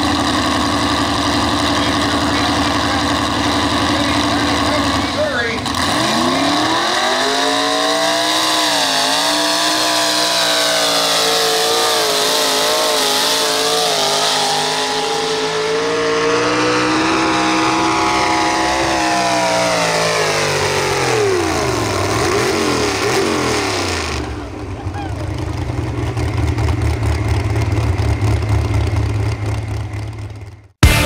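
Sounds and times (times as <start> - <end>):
truck engine revving under load: 0.0 - 31.0.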